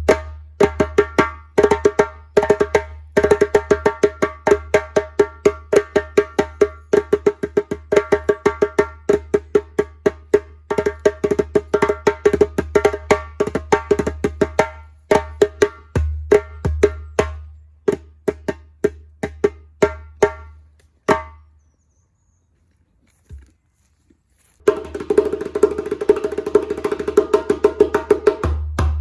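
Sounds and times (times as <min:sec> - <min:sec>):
djembe hand drumming: 0:00.0 - 0:21.4, 0:24.7 - 0:29.0.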